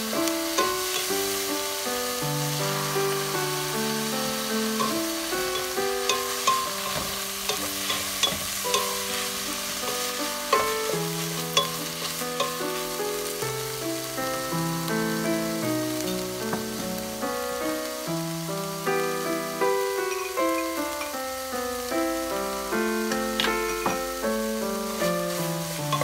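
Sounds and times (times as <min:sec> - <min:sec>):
background music of sustained notes: 0:00.0 - 0:26.0
meat sizzling in a frying pan: 0:00.0 - 0:26.0
sauce pouring into pan: 0:00.0 - 0:26.0.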